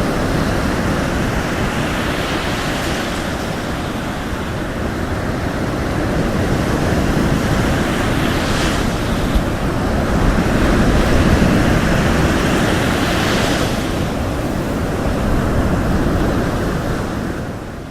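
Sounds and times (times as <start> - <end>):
sea waves breaking on shore: 0.0 - 17.9.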